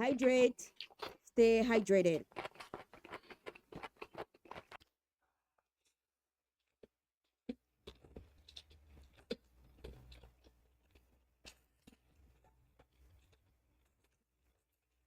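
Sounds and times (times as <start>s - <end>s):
chewing and crunching food: 0.7s - 4.9s, 6.6s - 15.0s.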